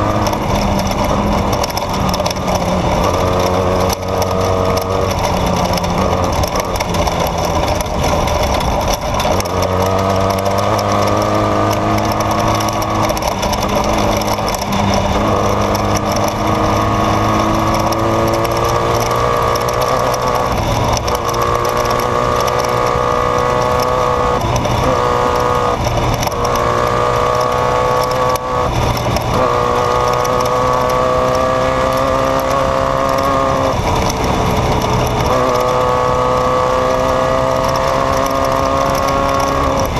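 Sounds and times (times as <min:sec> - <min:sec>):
race vehicle engine revving: 0:00.0 - 0:39.9
rattle over rough terrain: 0:00.0 - 0:39.9.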